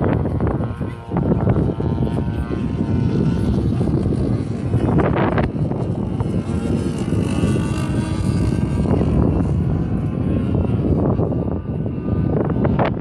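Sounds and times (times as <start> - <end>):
model airplane engine drone: 0.0 - 13.0
wind rumble on microphone: 0.0 - 13.0.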